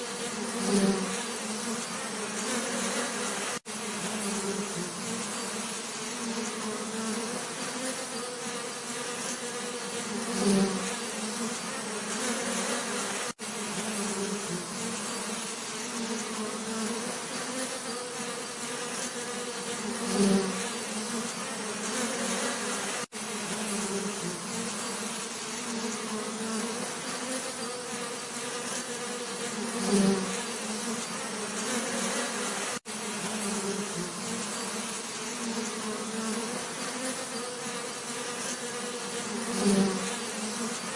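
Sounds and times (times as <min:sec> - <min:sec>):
bee passing close: 0:00.0 - 0:40.9
bees buzzing: 0:00.0 - 0:40.9.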